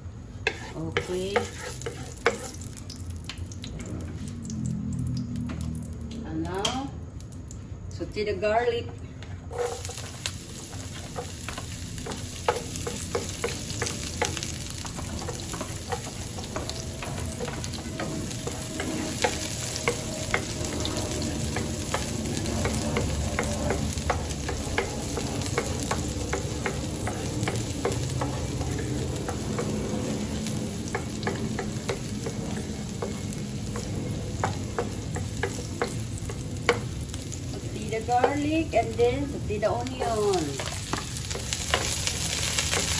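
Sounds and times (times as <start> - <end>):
garlic sizzling in oil: 0.0 - 7.6, 9.4 - 42.9.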